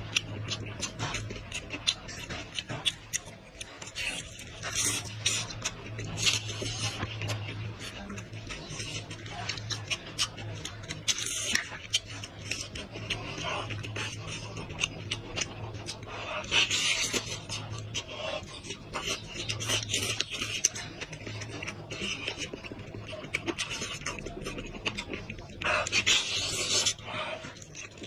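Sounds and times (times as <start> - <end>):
close chewing and lip-smacking: 0.0 - 28.0.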